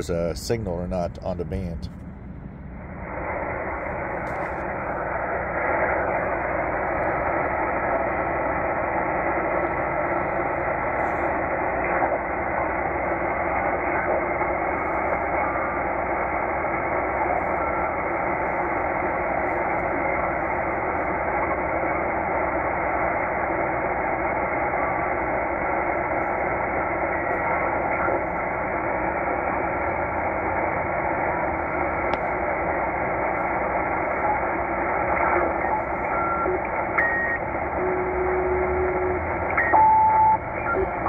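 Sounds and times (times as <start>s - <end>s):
shortwave radio static hiss: 0.0s - 41.0s
radio whistling tones: 3.1s - 41.0s.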